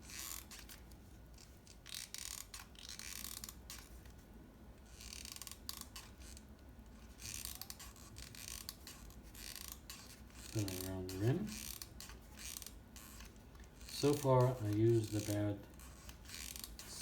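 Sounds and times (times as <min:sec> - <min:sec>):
glue gun clicking and creaking: 0:00.0 - 0:04.2, 0:04.8 - 0:17.0.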